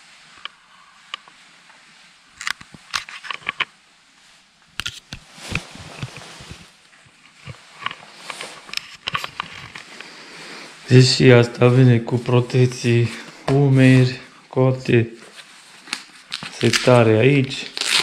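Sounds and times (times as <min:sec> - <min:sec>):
fabric rustling: 0:00.0 - 0:14.5, 0:15.1 - 0:18.0.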